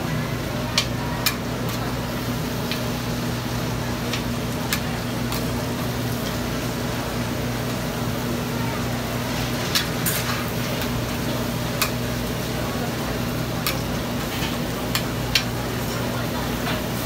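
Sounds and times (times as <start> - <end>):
frying hiss: 0.0 - 17.0.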